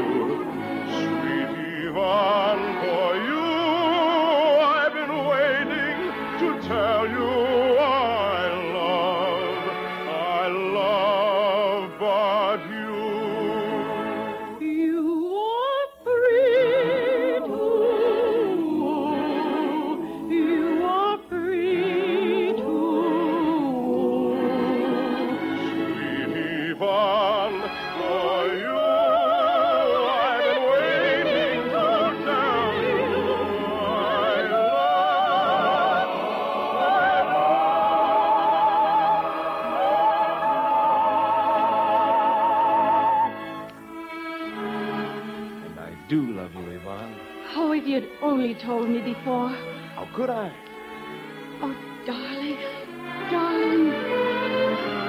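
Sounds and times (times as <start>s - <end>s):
orchestral accompaniment: 0.0s - 14.9s, 16.2s - 55.0s
operatic singing: 0.0s - 55.0s.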